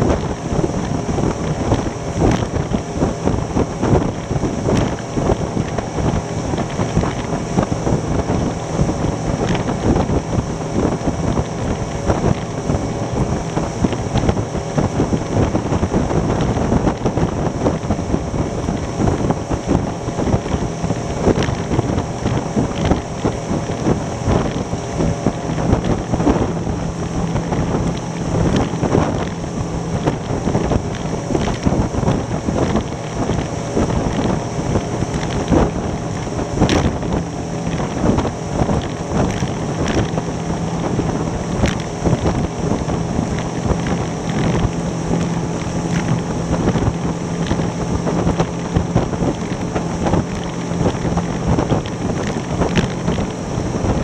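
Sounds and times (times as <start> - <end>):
boat hull knocking on waves: 0.0 - 54.0
outboard engine drone: 0.0 - 54.0
wind noise on microphone: 0.0 - 54.0.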